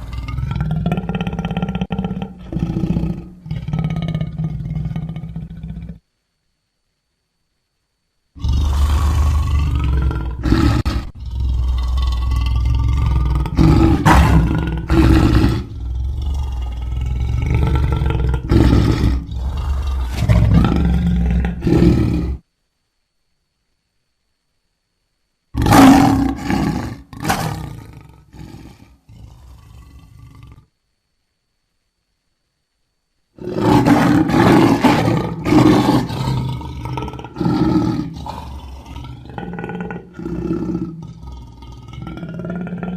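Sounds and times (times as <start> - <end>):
lion roaring and grunting: 0.0 - 6.0, 8.4 - 22.4, 25.6 - 30.7, 33.4 - 42.9.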